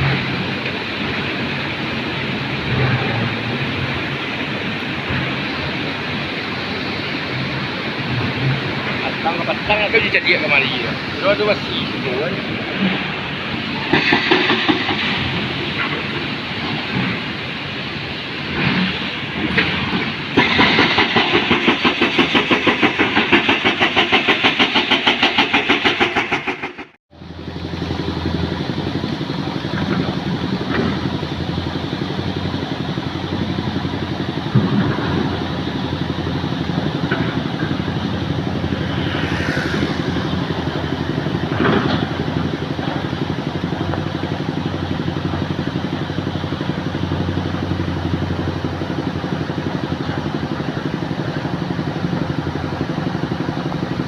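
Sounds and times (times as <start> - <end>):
engine idling: 0.0 - 54.0
rapidly pulsing engine noise: 0.0 - 54.0.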